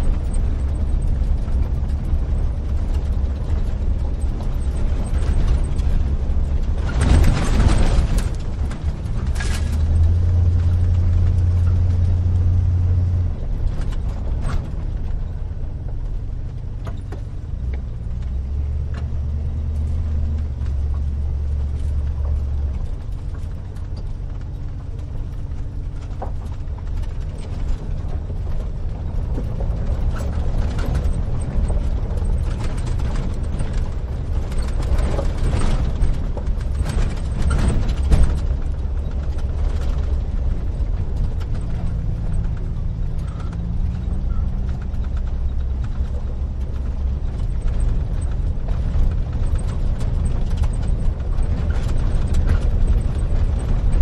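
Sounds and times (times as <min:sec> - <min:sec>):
cab rattles and clicks: 0:00.0 - 0:54.0
engine and road drone: 0:00.0 - 0:54.0.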